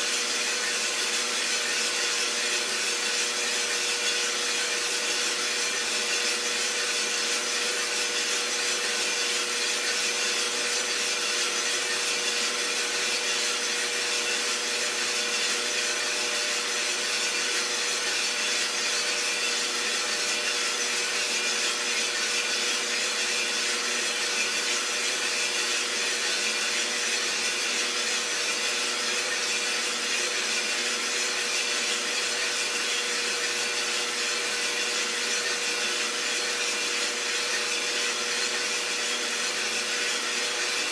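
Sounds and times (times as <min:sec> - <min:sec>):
coffee roaster hiss and rasp: 0:00.0 - 0:40.9.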